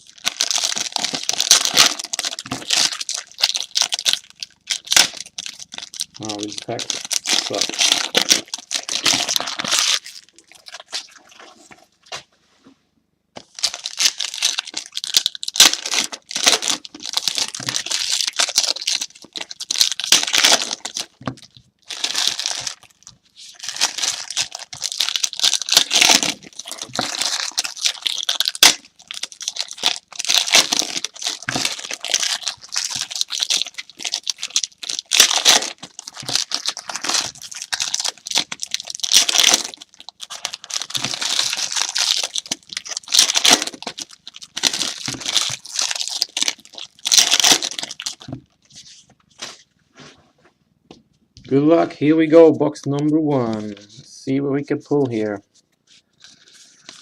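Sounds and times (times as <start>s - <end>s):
wrappers tearing and crinkling: 0.0s - 11.4s, 13.4s - 48.6s, 56.2s - 57.0s.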